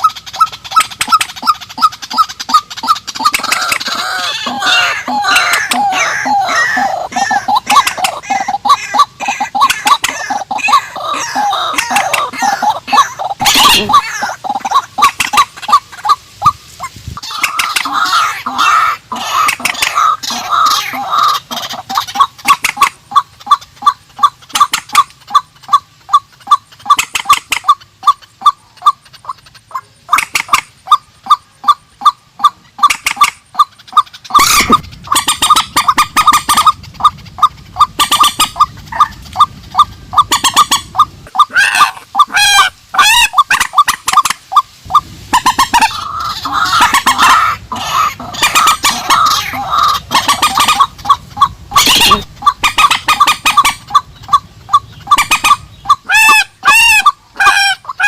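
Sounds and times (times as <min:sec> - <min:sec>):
harsh bird calls: 0:00.0 - 0:44.3, 0:45.3 - 0:58.0
bird clucking notes: 0:00.0 - 0:58.0.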